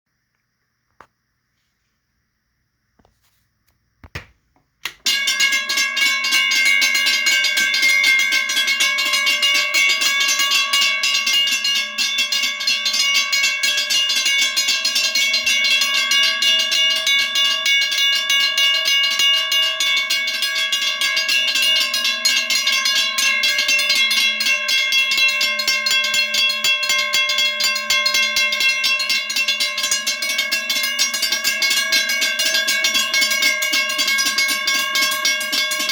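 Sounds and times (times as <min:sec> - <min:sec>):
railroad crossing bells ringing: 0:05.0 - 0:35.9.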